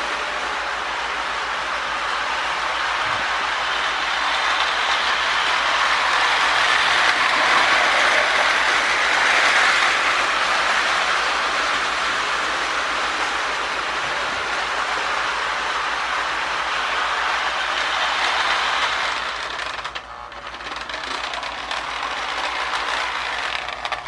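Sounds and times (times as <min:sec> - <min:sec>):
toy train motor whirring: 0:00.0 - 0:24.0.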